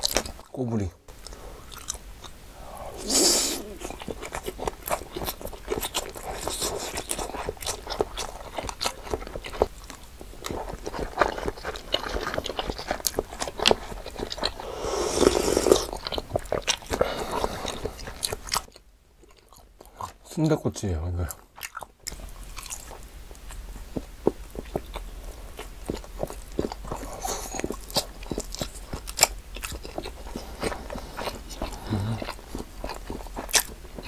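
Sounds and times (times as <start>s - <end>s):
biting and chewing food: 0.0s - 2.4s, 3.6s - 20.3s, 21.2s - 34.0s.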